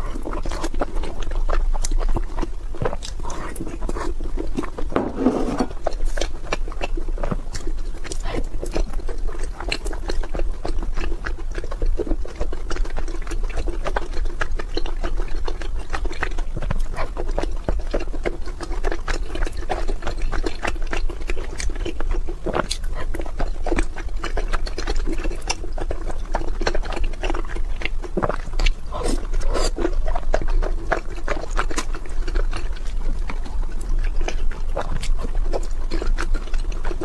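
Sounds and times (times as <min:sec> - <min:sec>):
wet chewing and lip smacking: 0:00.0 - 0:37.0.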